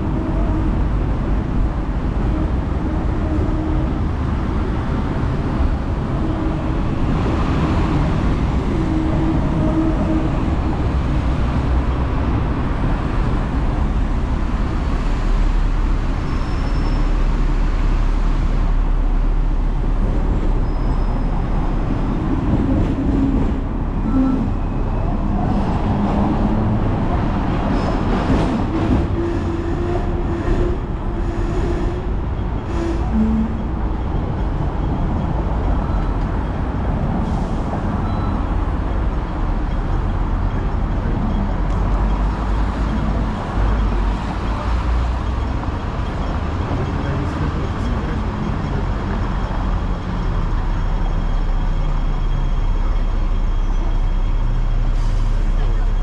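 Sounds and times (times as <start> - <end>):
street traffic: 0.0 - 56.0
tram wheels rumbling on rail: 0.0 - 56.0.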